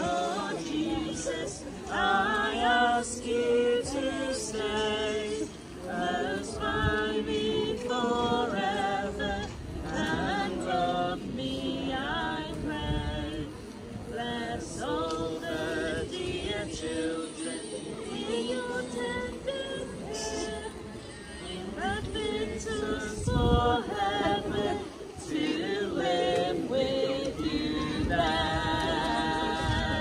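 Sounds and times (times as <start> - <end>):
group singing a carol: 0.0 - 30.0.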